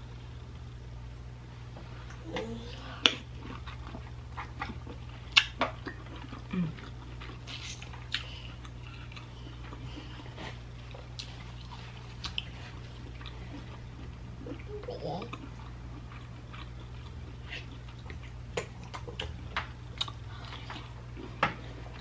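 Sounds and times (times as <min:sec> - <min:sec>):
low electrical hum: 0:00.0 - 0:22.0
person chewing wetly: 0:02.8 - 0:22.0.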